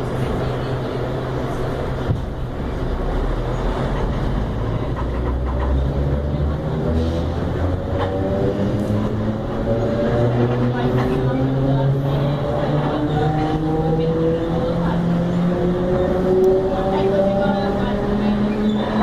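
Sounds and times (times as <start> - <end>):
low train rumble: 0.0 - 19.0.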